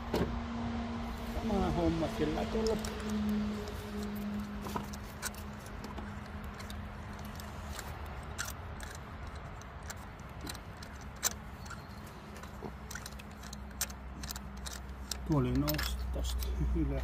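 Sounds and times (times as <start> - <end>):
hand tools clicking and clinking: 2.2 - 17.0.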